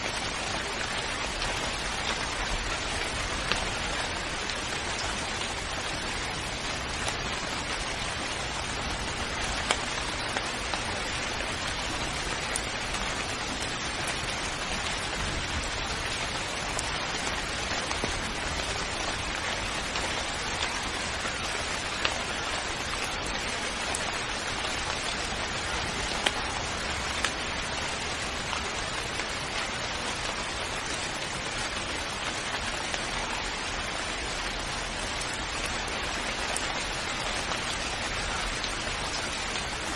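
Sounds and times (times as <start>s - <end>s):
raindrops hitting a surface: 0.0s - 39.9s
steady rain falling: 0.0s - 39.9s.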